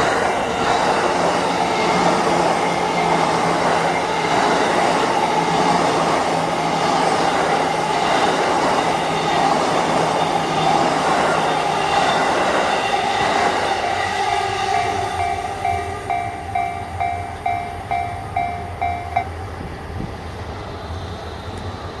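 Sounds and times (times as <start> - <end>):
crossing warning bell ringing: 0.0 - 19.6
train wheel and rail noise: 0.0 - 22.0.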